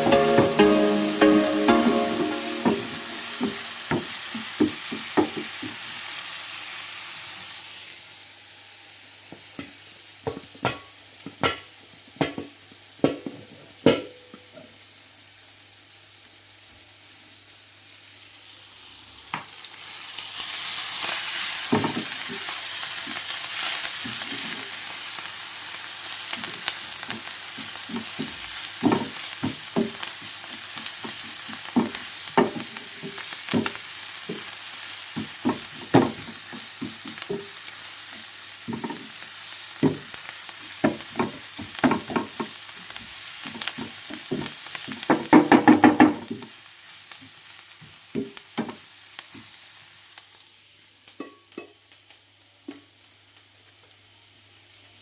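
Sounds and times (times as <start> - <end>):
food sizzling in pot: 0.0 - 55.0.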